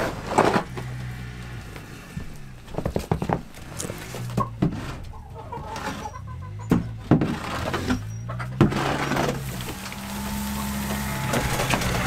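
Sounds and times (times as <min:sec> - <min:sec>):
hens clucking: 0:00.0 - 0:12.0
shovel scraping coop floor: 0:00.0 - 0:12.0.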